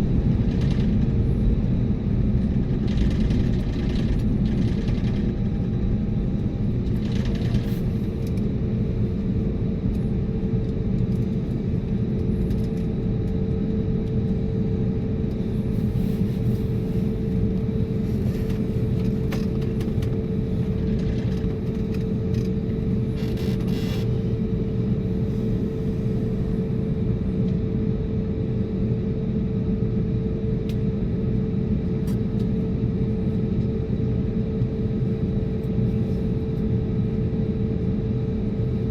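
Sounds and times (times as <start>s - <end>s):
aircraft cabin low rumble: 0.0s - 38.9s
steady hum: 0.0s - 38.9s.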